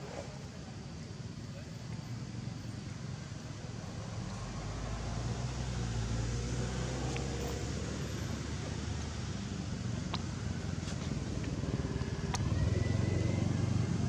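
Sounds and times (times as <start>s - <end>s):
passing vehicle engine rumble: 0.0s - 14.0s.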